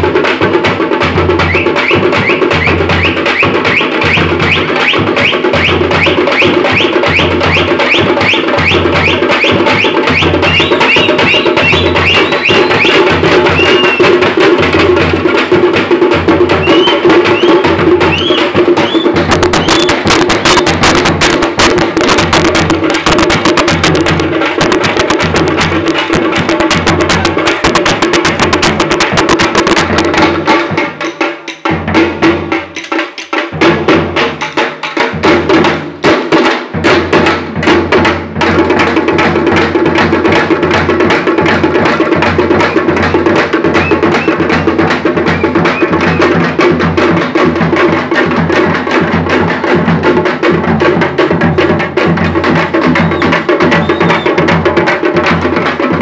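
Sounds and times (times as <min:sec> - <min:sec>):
frame drums beaten with sticks: 0:00.0 - 0:56.0.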